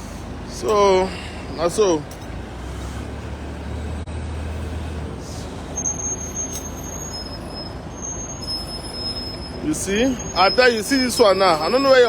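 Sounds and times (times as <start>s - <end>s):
low engine hum: 0.0s - 12.0s
traffic noise: 0.0s - 12.0s.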